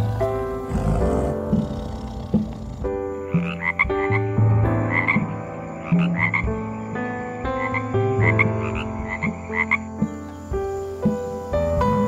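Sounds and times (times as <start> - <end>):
frogs croaking: 0.0 - 12.0.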